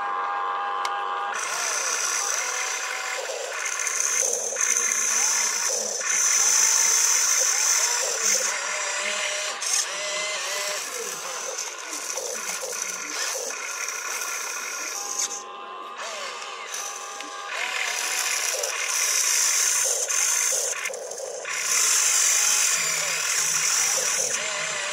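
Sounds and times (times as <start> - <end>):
small electric motors whining: 0.0 - 24.9.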